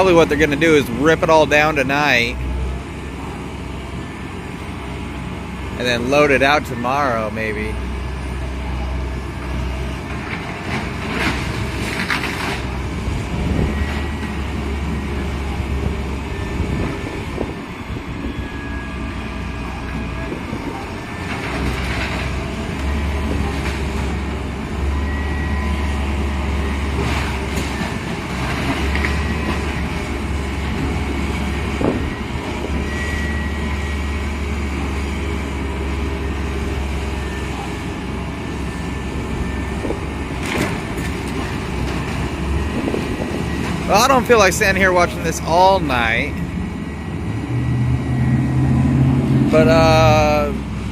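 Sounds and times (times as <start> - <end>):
diesel demolition machinery rumbling: 0.0 - 50.9.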